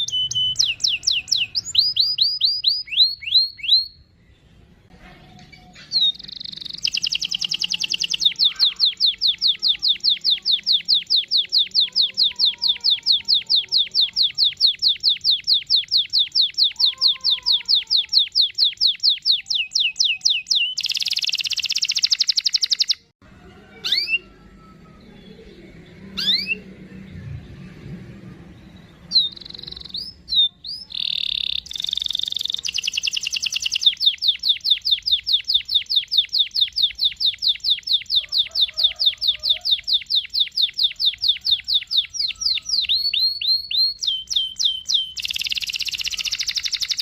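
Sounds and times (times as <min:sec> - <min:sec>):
canary singing: 0:00.0 - 0:47.0.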